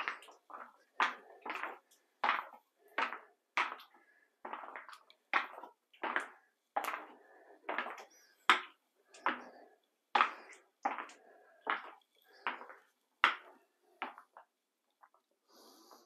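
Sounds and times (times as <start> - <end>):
clattering footsteps: 0.0 - 15.2.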